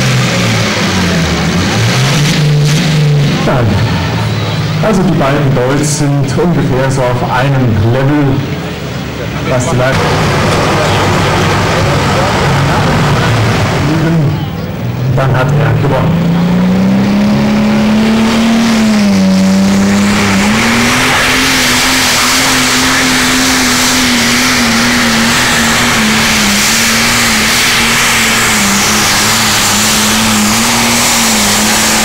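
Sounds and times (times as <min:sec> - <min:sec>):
diesel tractor engine at full throttle: 0:00.0 - 0:32.0
rushing noise: 0:00.0 - 0:32.0.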